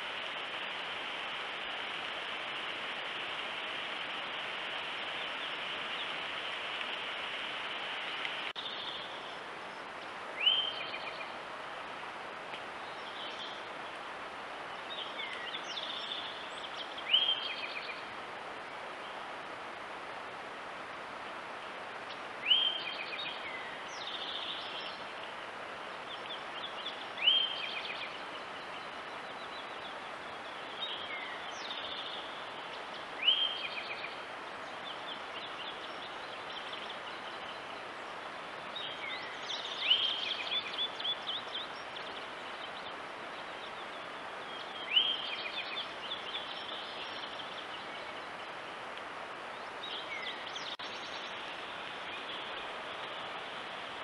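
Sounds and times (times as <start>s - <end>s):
songbird singing: 0.0s - 19.4s, 21.6s - 54.0s
steady hiss: 0.0s - 54.0s.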